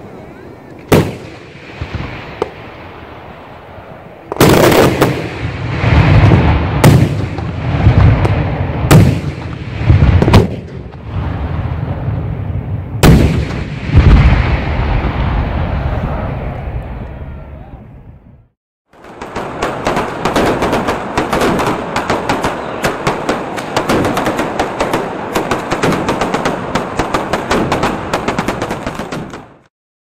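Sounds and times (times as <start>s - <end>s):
heavy fireworks booms echoing: 0.7s - 17.0s, 18.9s - 29.7s
fireworks bang: 0.8s - 3.0s, 4.3s - 16.6s, 19.0s - 29.7s.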